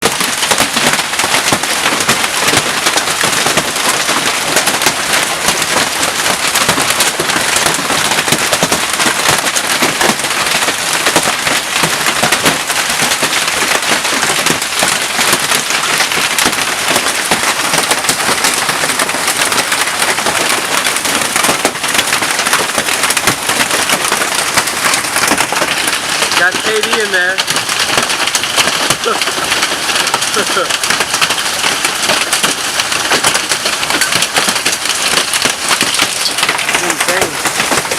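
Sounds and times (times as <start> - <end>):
hailstones pelting down: 0.0 - 37.9.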